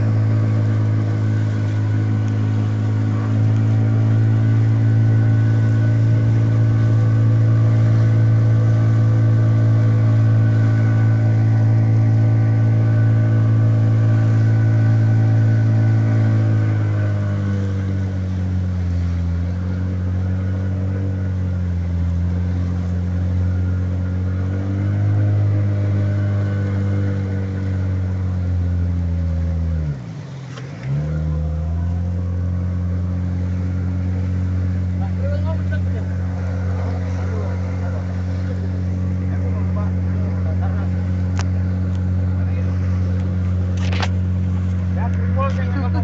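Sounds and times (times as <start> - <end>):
outboard motor running: 0.0 - 46.0.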